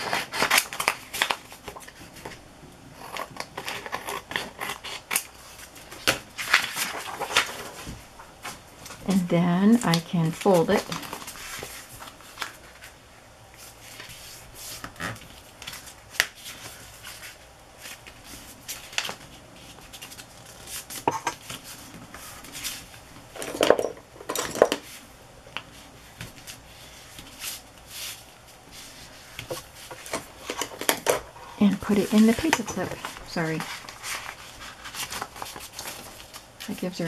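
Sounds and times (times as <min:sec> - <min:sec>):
paper being folded and handled: 0:00.0 - 0:02.4, 0:03.2 - 0:13.0, 0:13.6 - 0:23.1, 0:24.8 - 0:37.0.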